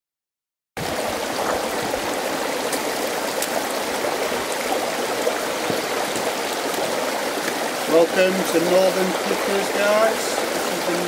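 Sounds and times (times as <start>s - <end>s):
stream rushing over stones: 0.8s - 11.0s.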